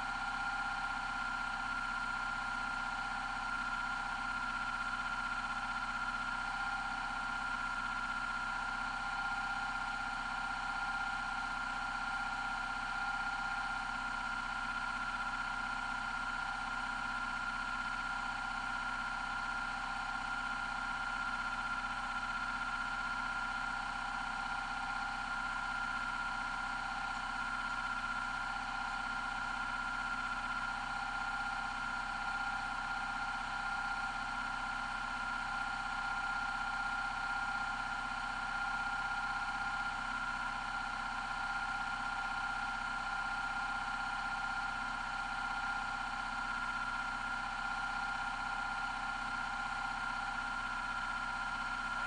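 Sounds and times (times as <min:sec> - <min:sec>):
machine hum with whine: 0:00.0 - 0:52.0.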